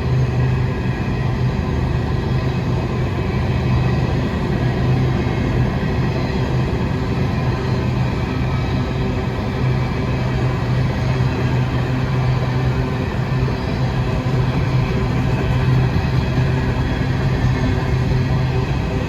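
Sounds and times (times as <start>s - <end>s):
diesel locomotive engine hum: 0.0s - 19.0s
train rolling noise: 0.0s - 19.0s.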